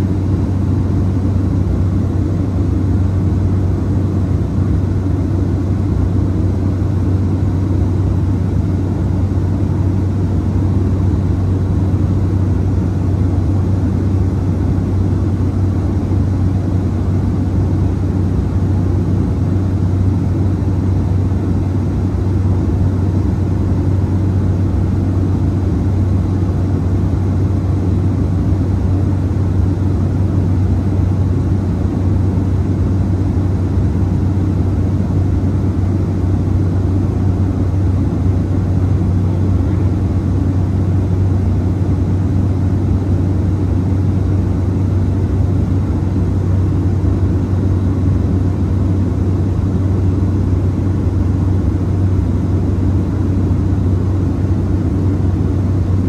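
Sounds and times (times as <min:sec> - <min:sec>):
propeller engine drone: 0:00.0 - 0:56.0.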